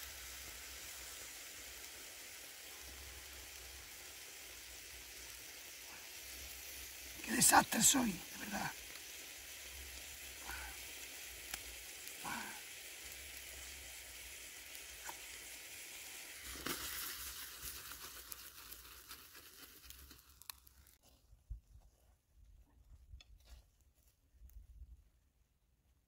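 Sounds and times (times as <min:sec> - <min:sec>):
sauce sizzling in a frying pan: 0:00.0 - 0:21.0.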